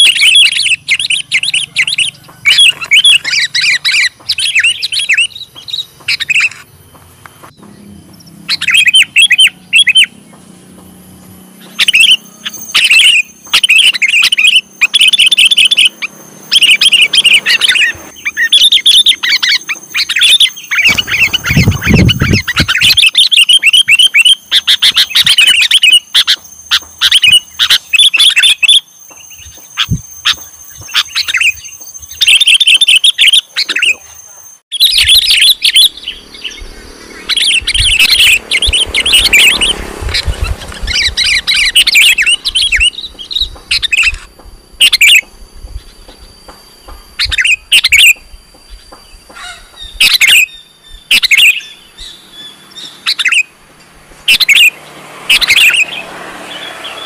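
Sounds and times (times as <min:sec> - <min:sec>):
bulbul singing chirpy whistles: 0:00.0 - 0:57.0.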